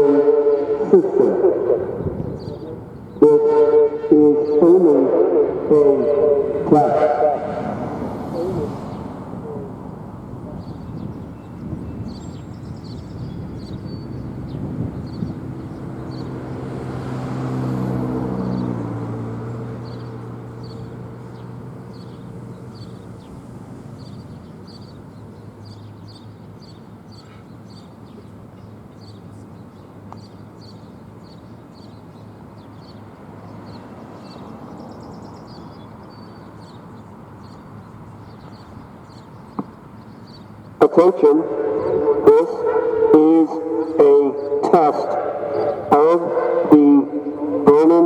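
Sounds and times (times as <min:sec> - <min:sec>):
vehicle passing: 0:00.0 - 0:26.6, 0:31.0 - 0:48.0
distant traffic: 0:00.0 - 0:48.0.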